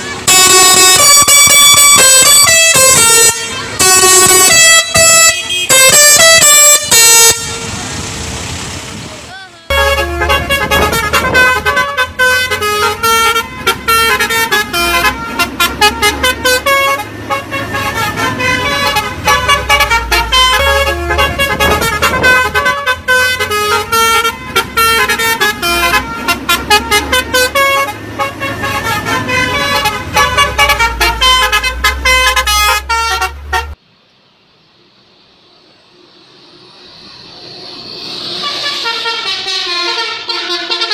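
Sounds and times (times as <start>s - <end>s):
bus horn playing jingly melody: 0.0s - 7.8s, 9.7s - 33.8s, 38.4s - 40.9s
bus engine rumble: 0.0s - 40.9s.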